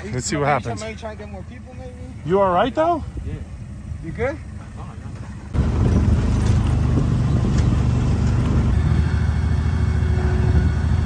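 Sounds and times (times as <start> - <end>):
off-road vehicle engine idling: 0.0 - 11.0.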